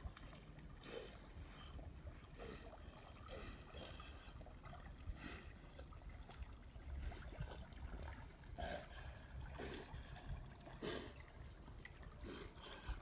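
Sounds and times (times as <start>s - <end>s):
faint water sounds: 0.0s - 13.0s.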